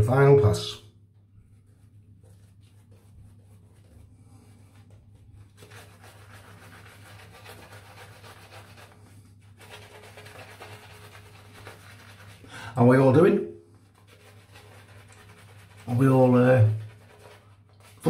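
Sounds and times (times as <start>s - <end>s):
shaving brush rubbing lather: 1.5s - 18.0s.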